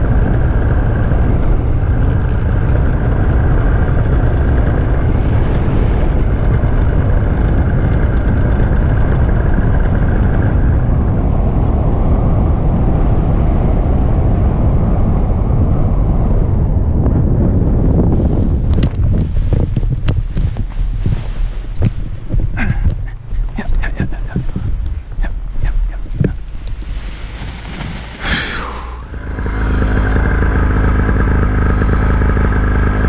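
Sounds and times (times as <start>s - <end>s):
paramotor engine and propeller: 0.0s - 33.0s
wind rumbling on microphone: 0.0s - 33.0s.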